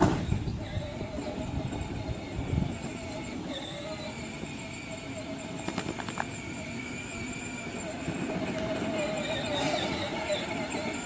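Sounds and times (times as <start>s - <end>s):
tractor motor whine: 0.0s - 11.0s
wheels rumbling on ground: 0.0s - 11.0s.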